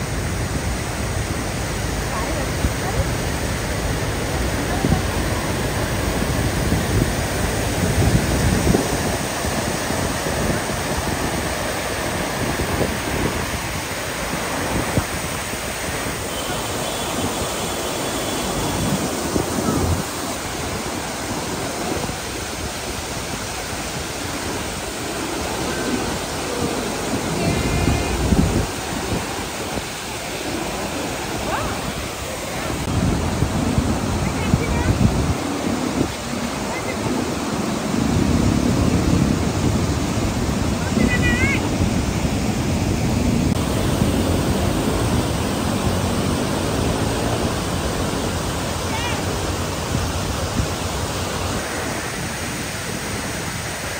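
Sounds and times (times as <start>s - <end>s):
waterfall and torrent rushing: 0.0s - 53.9s
wind buffeting microphone: 0.0s - 53.9s.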